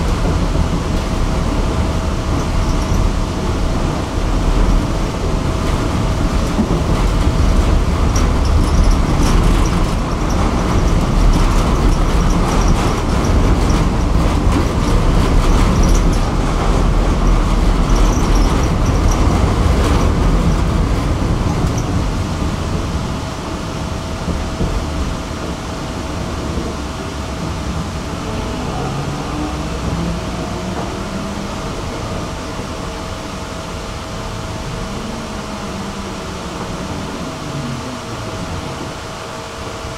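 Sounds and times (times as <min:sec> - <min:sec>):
constant hum: 0:00.0 - 0:39.9
tram wheels rumbling: 0:00.0 - 0:39.9.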